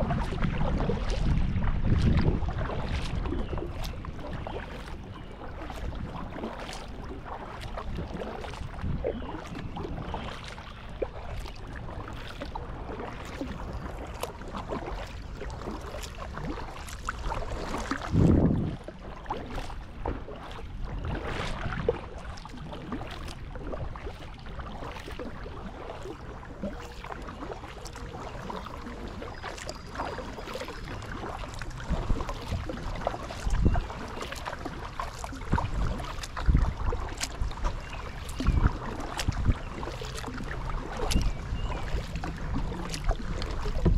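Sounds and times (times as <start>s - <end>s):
paddle splashing in water: 0.0s - 43.9s
water lapping against hull: 0.0s - 43.9s.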